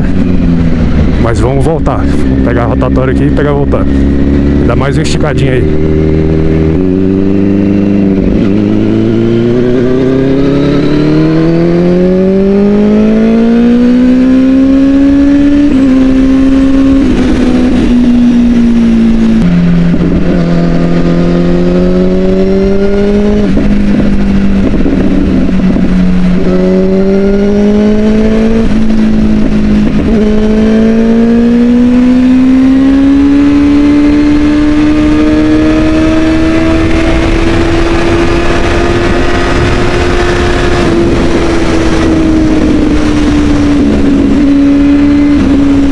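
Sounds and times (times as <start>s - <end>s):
motorcycle engine accelerating hard: 0.0s - 45.9s.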